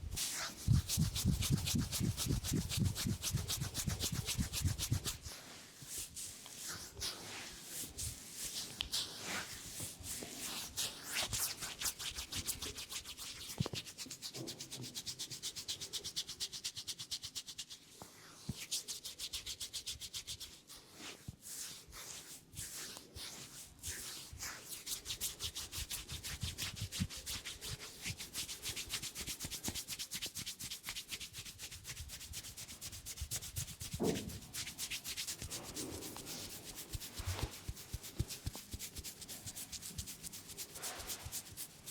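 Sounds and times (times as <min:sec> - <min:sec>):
hands rubbing through hair: 0:00.0 - 0:41.9.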